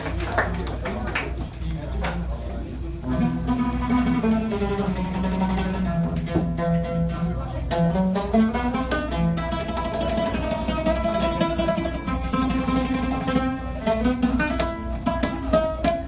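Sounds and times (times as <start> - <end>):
oud melody: 3.0 - 16.0.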